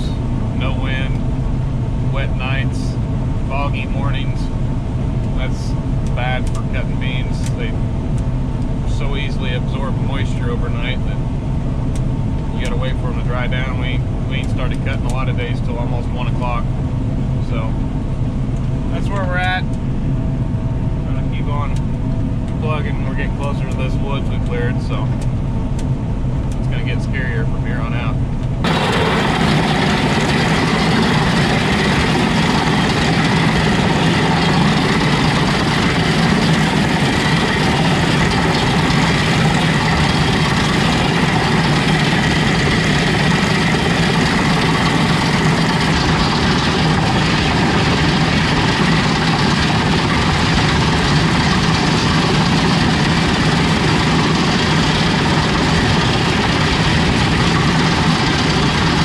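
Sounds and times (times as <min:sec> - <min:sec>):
combine harvester droning: 0:00.0 - 0:59.0.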